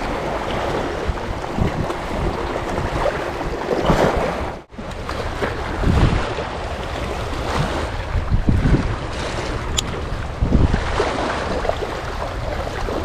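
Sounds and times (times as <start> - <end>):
sea waves: 0.0 - 13.0
wind buffeting microphone: 0.0 - 13.0.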